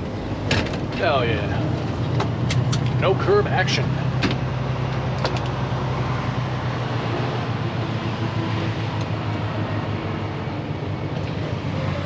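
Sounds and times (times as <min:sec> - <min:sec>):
road noise: 0:00.0 - 0:12.0
truck diesel engine running: 0:00.0 - 0:12.0.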